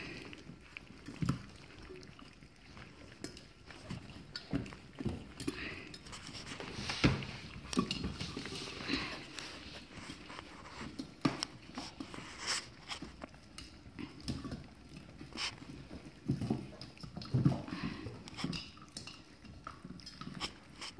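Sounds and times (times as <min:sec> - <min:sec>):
puppies chewing and biting: 0:00.0 - 0:20.9.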